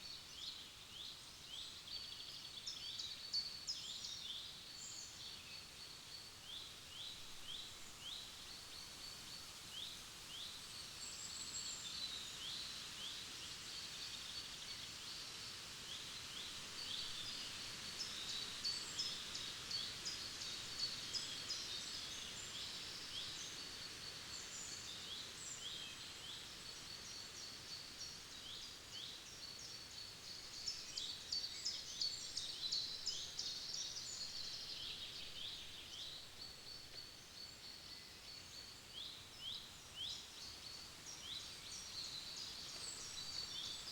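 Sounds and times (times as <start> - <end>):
faint background hiss: 0.0 - 43.9.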